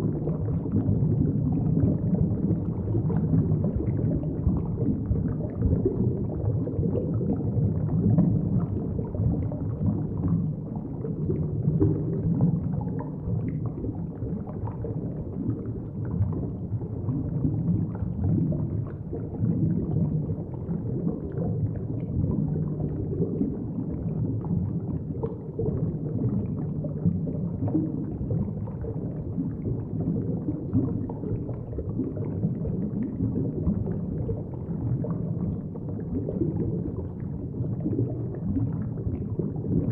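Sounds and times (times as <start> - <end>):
underwater rumble and gurgle: 0.0 - 39.9.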